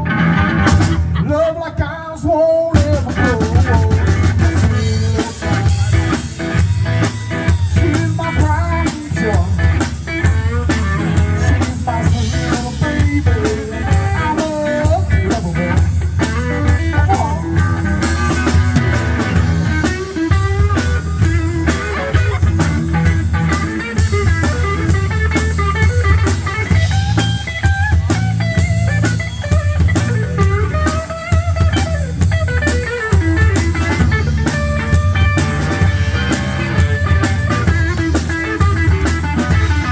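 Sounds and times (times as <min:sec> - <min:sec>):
band playing blues-rock: 0:00.0 - 0:39.9
wavering guitar line: 0:00.0 - 0:39.9.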